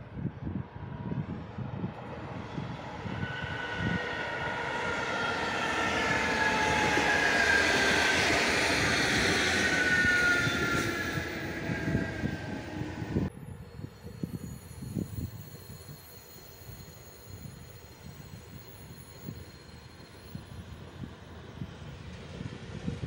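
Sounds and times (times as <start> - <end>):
electric train passing: 0.8 - 23.0
train whining tones falling in pitch: 2.1 - 22.0.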